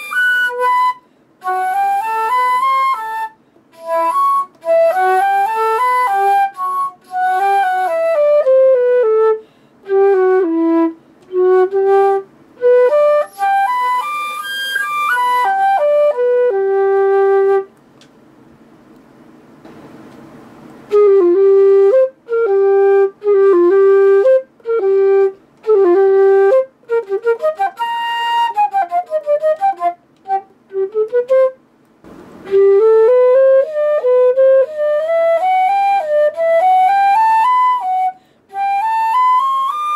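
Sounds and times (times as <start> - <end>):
solo flute playing: 0.0 - 17.7, 20.8 - 31.7, 32.4 - 39.9.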